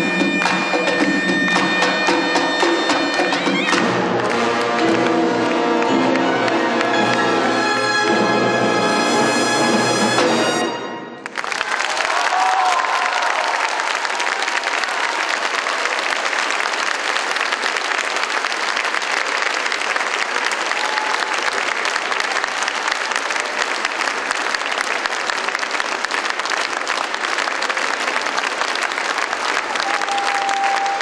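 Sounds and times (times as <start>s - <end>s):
large audience applauding: 0.0s - 9.0s, 11.2s - 31.0s.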